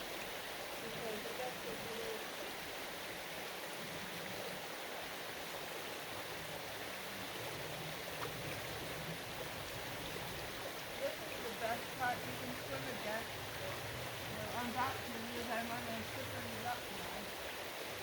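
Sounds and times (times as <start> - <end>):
flowing river current: 0.0 - 18.0.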